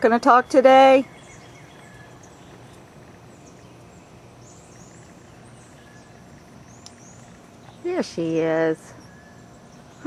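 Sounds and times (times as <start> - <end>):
outdoor background hush: 0.0 - 10.0
faint high bird chirps: 0.3 - 10.0.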